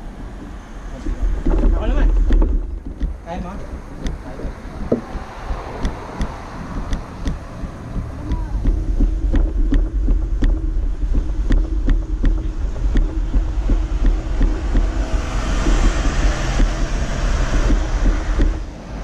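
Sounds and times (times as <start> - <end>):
sharp clicks and rattles: 0.0 - 18.8
wind buffeting microphone: 0.0 - 19.0.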